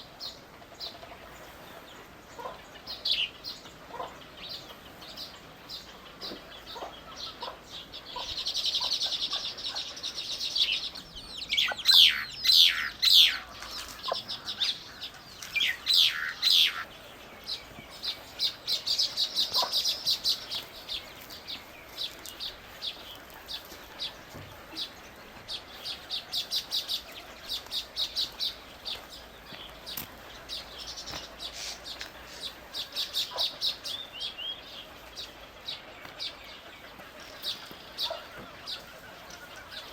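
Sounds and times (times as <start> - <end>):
birds chirping: 0.0 - 39.9
loud downward-sweeping bird calls: 0.0 - 39.9.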